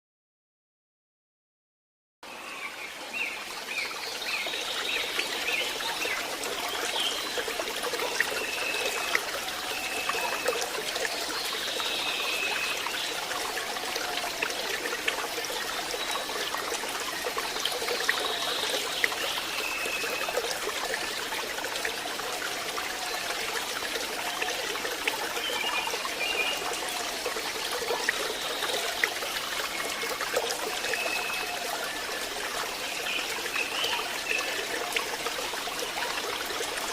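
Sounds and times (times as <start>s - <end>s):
stream trickling over rocks: 2.2s - 36.9s.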